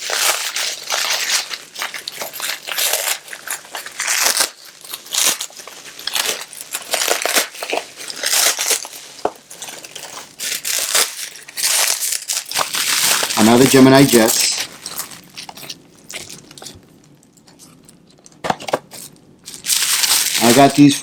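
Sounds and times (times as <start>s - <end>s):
packaging crinkling and rustling: 0.0s - 21.0s.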